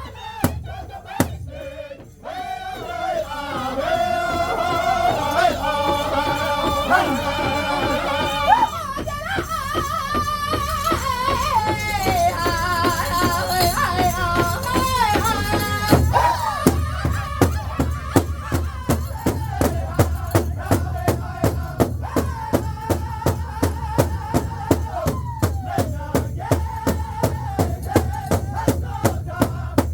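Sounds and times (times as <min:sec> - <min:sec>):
big drum beat: 0:00.0 - 0:29.9
group singing in high wavering voices: 0:00.0 - 0:29.9.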